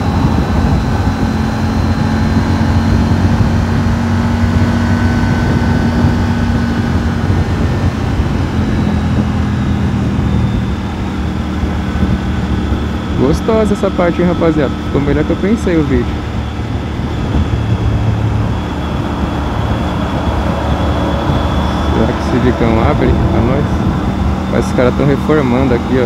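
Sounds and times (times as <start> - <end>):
motorcycle engine cruising: 0.0 - 26.0
wind rushing over microphone: 0.0 - 26.0.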